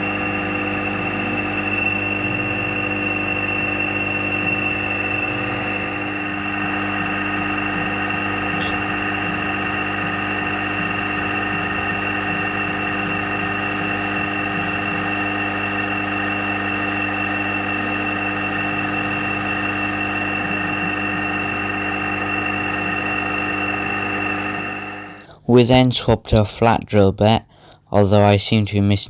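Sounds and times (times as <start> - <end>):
drilling machine whining: 0.0 - 25.3.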